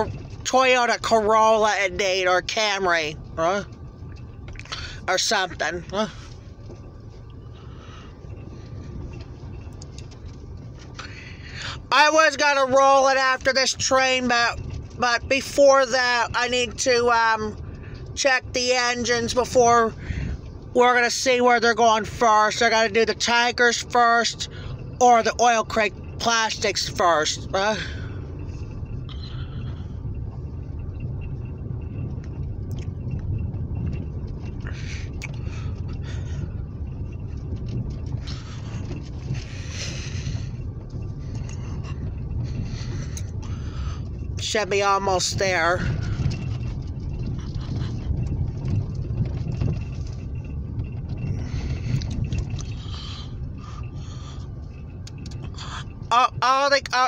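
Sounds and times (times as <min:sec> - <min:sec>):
car engine and tyres rumbling: 0:00.0 - 0:57.0
gravel crackling: 0:00.0 - 0:57.0.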